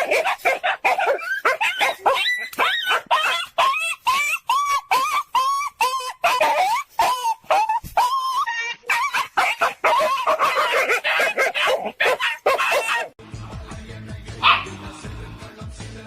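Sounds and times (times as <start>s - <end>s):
dog whining and yipping: 0.0s - 13.2s.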